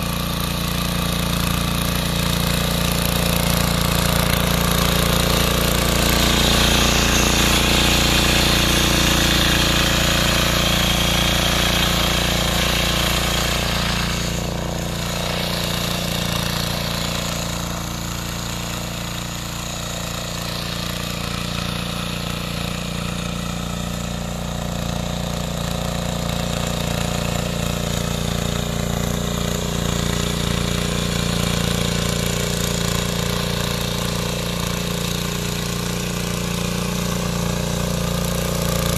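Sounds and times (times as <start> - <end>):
power tiller engine running: 0.0 - 38.9.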